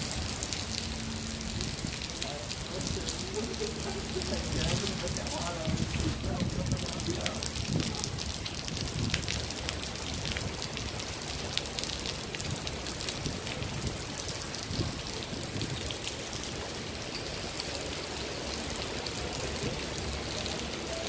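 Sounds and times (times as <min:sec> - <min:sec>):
heavy rain on stone paving: 0:00.0 - 0:21.0.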